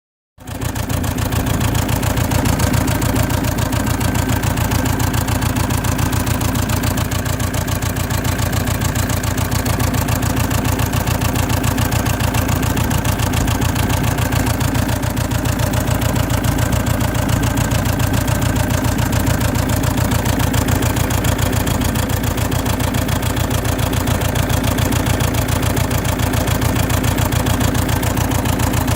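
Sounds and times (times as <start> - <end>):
diesel engine idling with misfire: 0.4 - 28.9.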